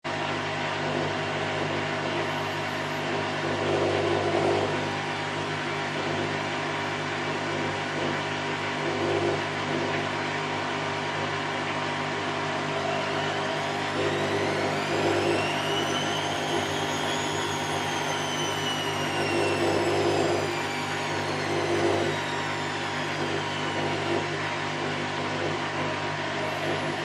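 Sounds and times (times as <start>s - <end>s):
washing machine spin cycle: 0.1s - 27.0s.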